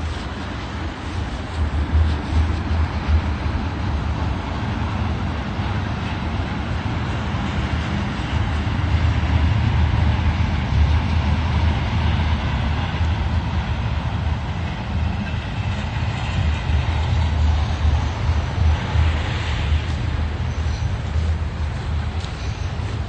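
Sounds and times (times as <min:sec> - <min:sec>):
wind buffeting microphone: 0:00.0 - 0:23.0
wind hissing: 0:00.0 - 0:23.0.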